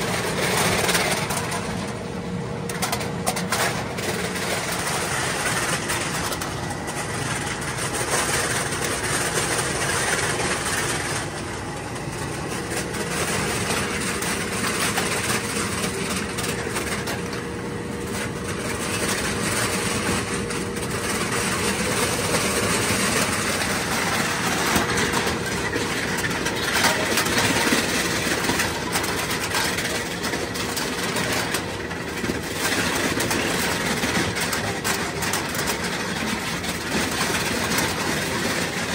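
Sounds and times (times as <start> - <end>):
cans clattering into metal hopper: 0.0 - 2.0, 2.7 - 11.4, 12.5 - 38.9
can crusher running: 0.0 - 38.9.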